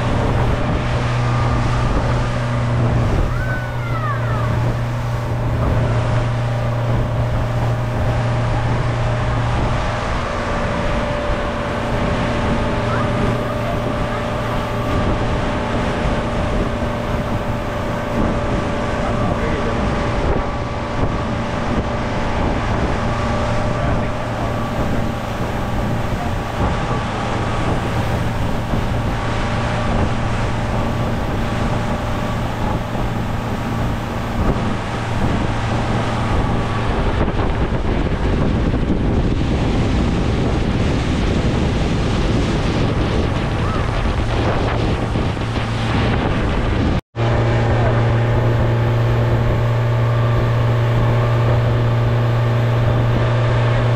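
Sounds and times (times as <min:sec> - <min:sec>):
boat engine hum: 0:00.0 - 0:53.9
wind buffeting microphone: 0:00.0 - 0:53.9.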